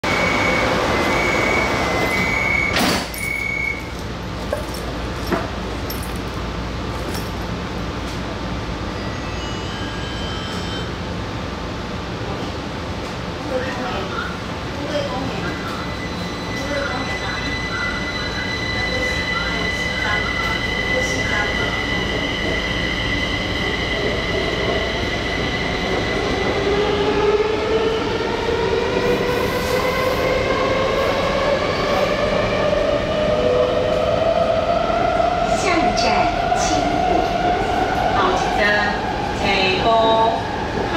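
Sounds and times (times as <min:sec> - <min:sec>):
metro train running noise: 0:00.0 - 0:40.9.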